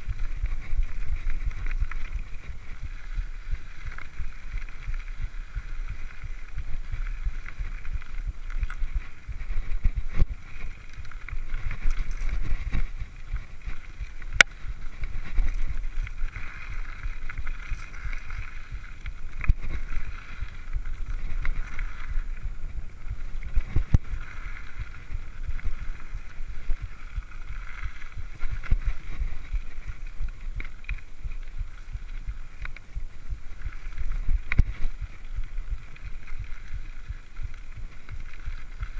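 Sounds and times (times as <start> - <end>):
bike knocking and rattling: 0.0 - 38.9
bike tyres rolling on dirt: 0.0 - 38.9
wind rumbling on microphone: 0.0 - 38.9.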